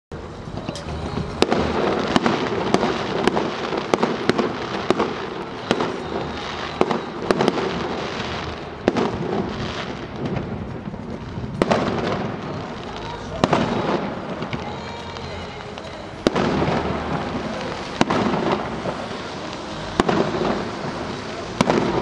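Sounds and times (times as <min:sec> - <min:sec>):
fireworks crackle: 0:00.1 - 0:22.0
fireworks bangs: 0:00.2 - 0:22.0.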